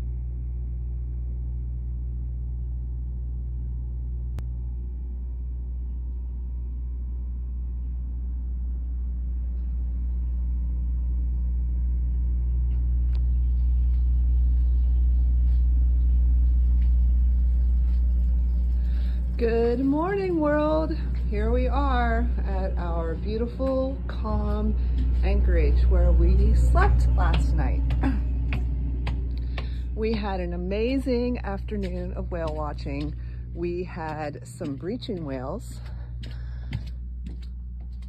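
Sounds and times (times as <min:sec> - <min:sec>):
boat engine humming: 0:00.0 - 0:38.0.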